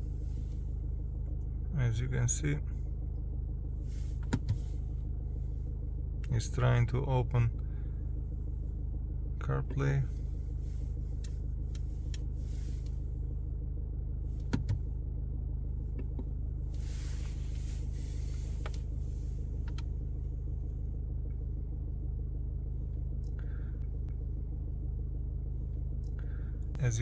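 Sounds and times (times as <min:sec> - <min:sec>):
low cabin hum: 0:00.0 - 0:27.0.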